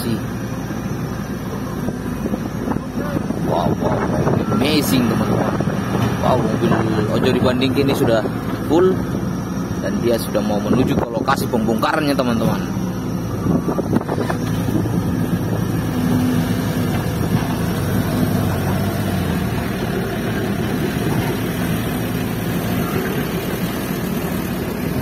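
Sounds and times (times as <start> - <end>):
diesel truck engine under load: 0.0 - 25.0.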